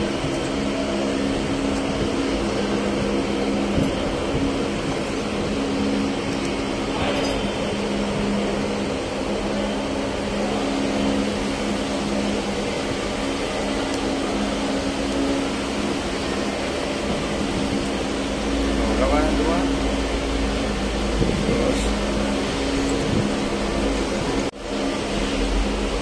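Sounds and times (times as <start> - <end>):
machine humming: 0.0 - 26.0
whirring hiss: 0.0 - 26.0.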